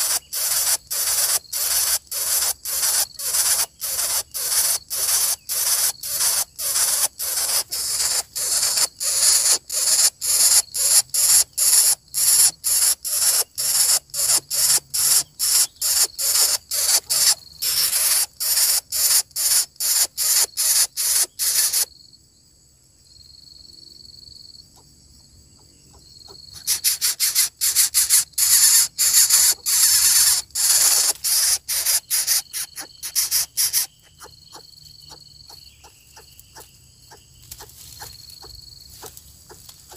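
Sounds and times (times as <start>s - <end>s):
nestlings begging with raspy hisses: 0.0s - 21.9s, 26.5s - 39.9s.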